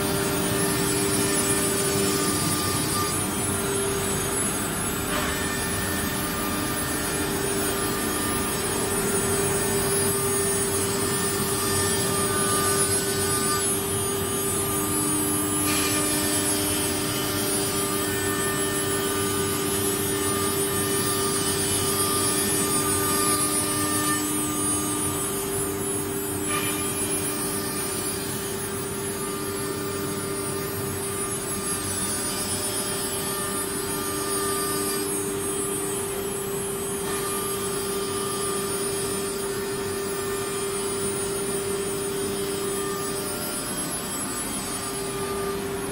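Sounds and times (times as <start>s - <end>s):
wood router spindle whine: 0.0s - 45.9s.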